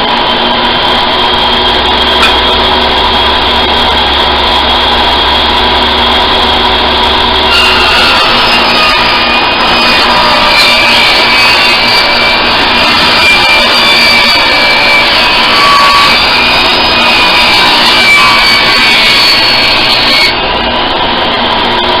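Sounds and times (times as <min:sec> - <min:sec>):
power saw cutting wood: 0:00.0 - 0:22.0.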